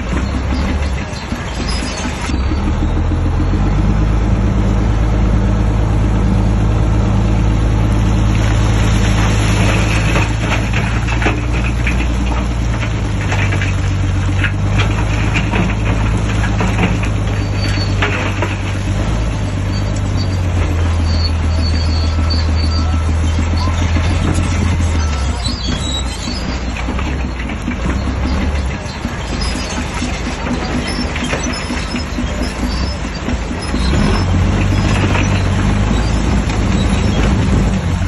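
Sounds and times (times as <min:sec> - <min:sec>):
irregular clatter: 0:00.0 - 0:03.8, 0:08.2 - 0:38.0
bulldozer diesel engine running: 0:00.0 - 0:38.0.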